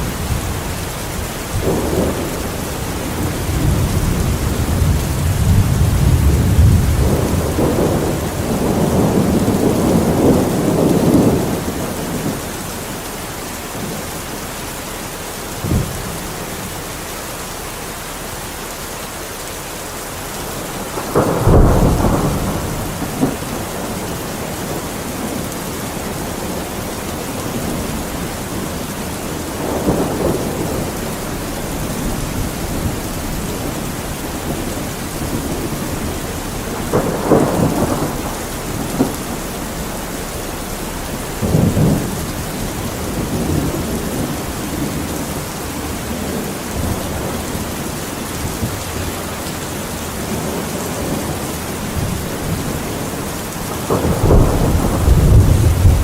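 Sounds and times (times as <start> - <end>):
thunder rumbling and cracking: 0.0 - 13.1, 15.6 - 16.6, 20.3 - 56.0
steady rain: 0.0 - 56.0.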